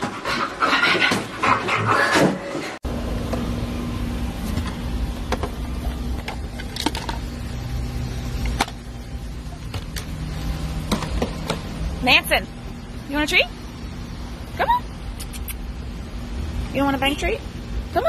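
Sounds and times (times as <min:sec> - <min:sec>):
low mechanical hum: 0:01.4 - 0:18.0.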